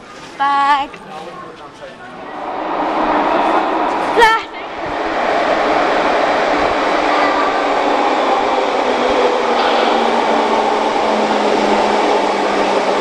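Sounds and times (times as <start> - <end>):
metro train rumbling in tunnel: 1.3 - 13.0.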